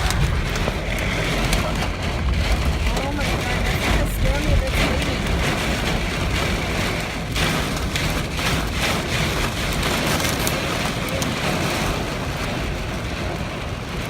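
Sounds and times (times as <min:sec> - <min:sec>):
heavy rain on a car: 0:00.0 - 0:14.0
low car rumble: 0:00.0 - 0:14.0.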